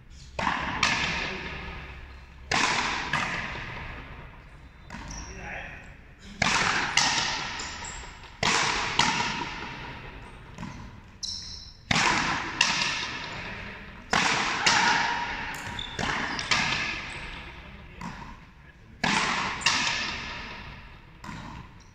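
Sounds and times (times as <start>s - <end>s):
racket striking rubber ball: 0.3s - 5.2s, 6.3s - 21.9s.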